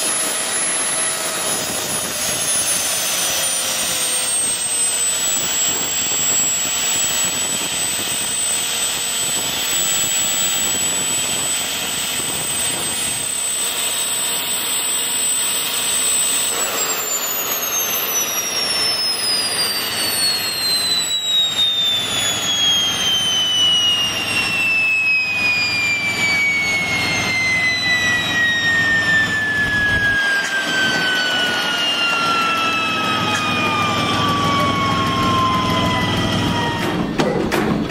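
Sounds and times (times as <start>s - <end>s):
gas turbine engine roaring: 0.0s - 37.9s
turbine whine spooling down: 0.0s - 37.9s.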